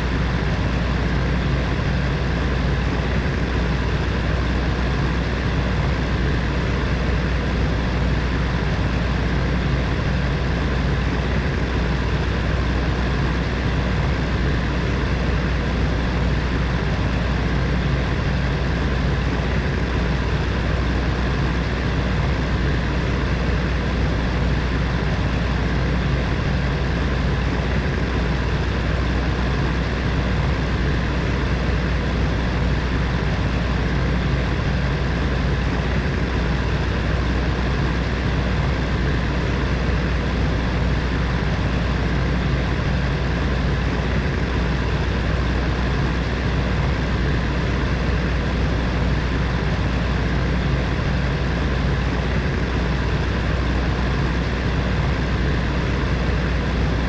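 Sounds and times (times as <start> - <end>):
deep constant hum: 0.0 - 57.0.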